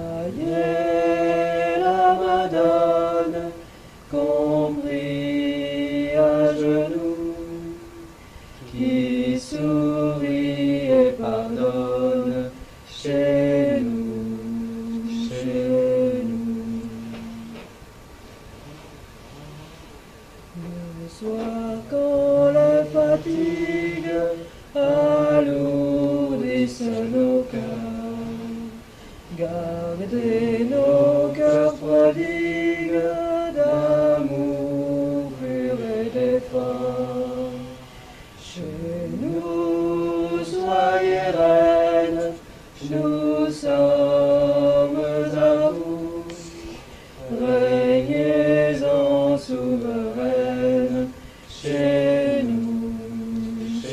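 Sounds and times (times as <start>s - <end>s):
voices chanting a mantra: 0.0s - 17.8s, 20.5s - 53.9s.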